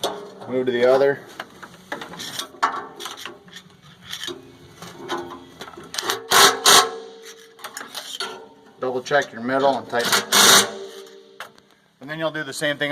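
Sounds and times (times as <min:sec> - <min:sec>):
metal scraping and knocks: 0:00.0 - 0:11.6.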